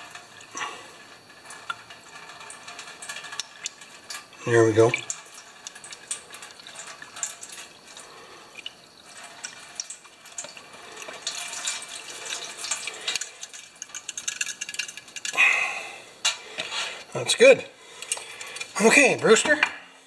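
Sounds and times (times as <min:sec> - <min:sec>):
liquid dripping: 0:00.0 - 0:15.7, 0:17.8 - 0:19.3
gasoline splashing into metal pan: 0:00.0 - 0:17.3.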